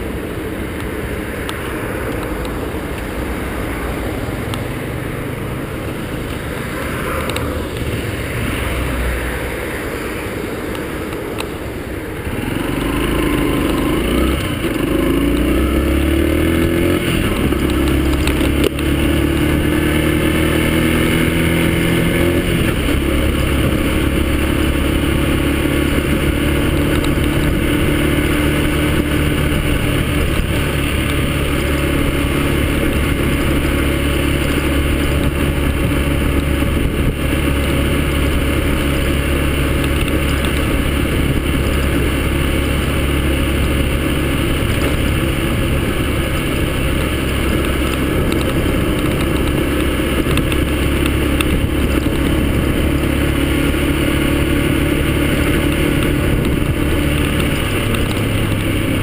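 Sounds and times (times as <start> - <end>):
motorcycle engine running: 0.0 - 59.0
road noise: 0.0 - 59.0
wind noise: 0.0 - 59.0.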